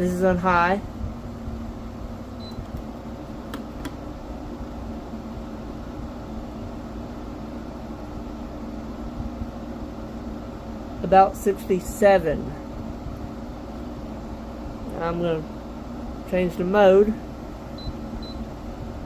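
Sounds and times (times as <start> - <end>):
air conditioner fan with low hum: 0.0 - 19.0.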